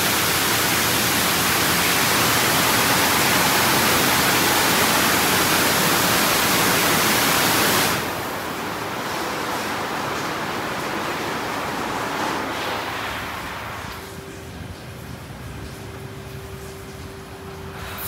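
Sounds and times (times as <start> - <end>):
car wash spray rushing: 0.0 - 18.0.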